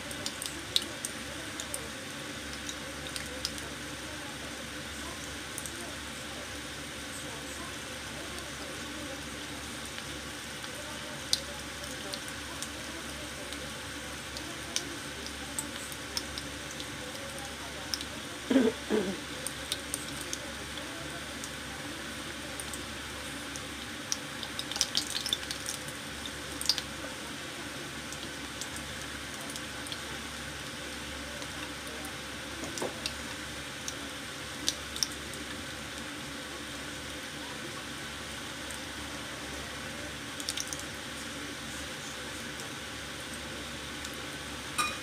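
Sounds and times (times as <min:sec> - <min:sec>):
croquettes deep-frying in oil: 0:00.0 - 0:45.0.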